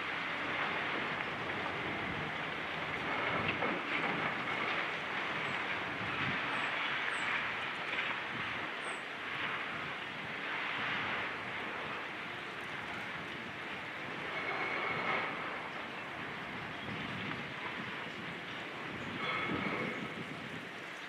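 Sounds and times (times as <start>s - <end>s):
demolition machinery rumbling: 0.0s - 20.8s.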